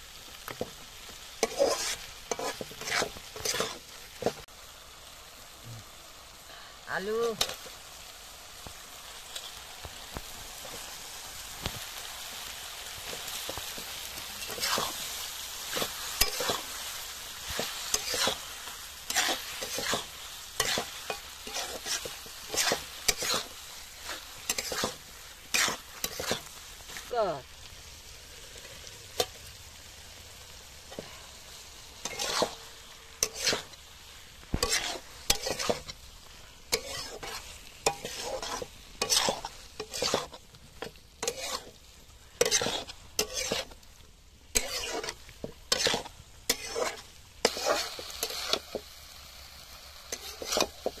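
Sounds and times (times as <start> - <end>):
food sizzling in a pan: 0.0 - 51.0
metal spatula scraping a pan: 0.3 - 4.5, 9.1 - 27.4, 30.8 - 43.9, 44.5 - 49.0, 50.0 - 51.0.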